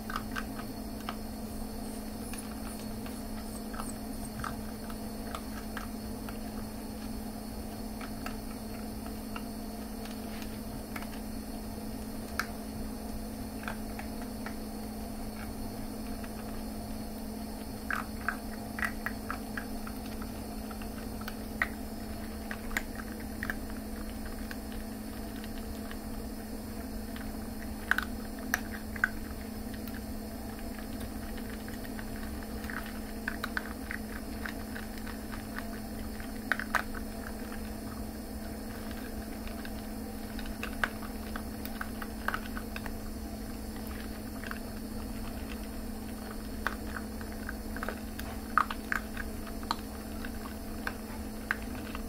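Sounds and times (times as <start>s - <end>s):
puppies crunching dry kibble: 0.0s - 52.0s
steady low hum: 0.0s - 52.0s.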